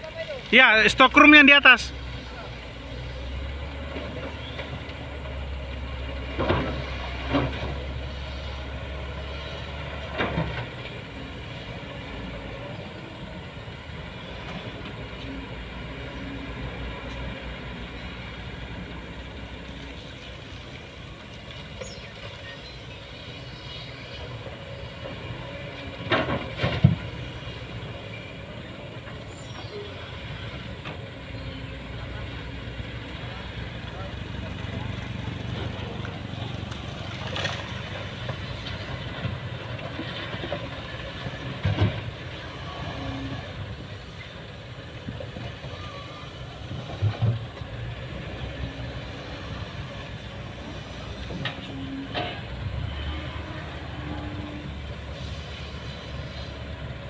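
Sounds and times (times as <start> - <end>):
diesel engines rumbling: 0.0 - 57.0.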